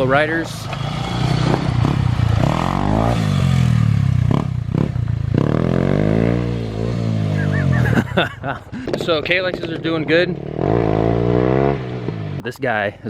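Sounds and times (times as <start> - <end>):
dirt bike engines revving: 0.0 - 12.5.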